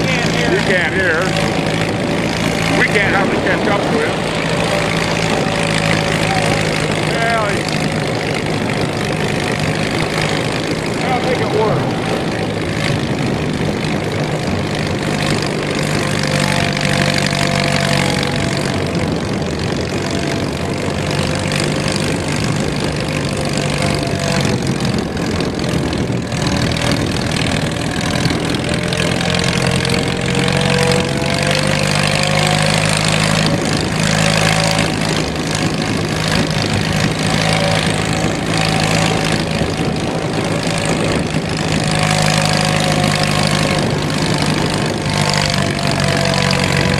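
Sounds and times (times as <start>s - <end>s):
tractor engine running under load: 0.0s - 46.9s
transmission whining growl: 0.0s - 46.9s.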